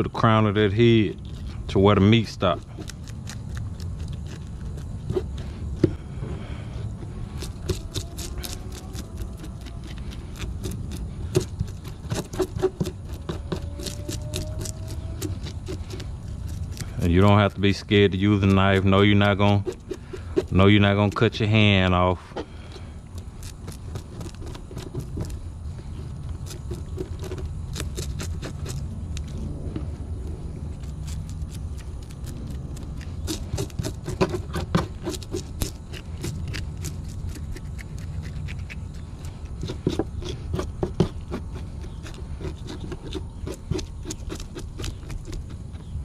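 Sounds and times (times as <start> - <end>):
knife scraping fish scales: 1.2 - 5.6, 6.4 - 28.8, 30.8 - 45.6.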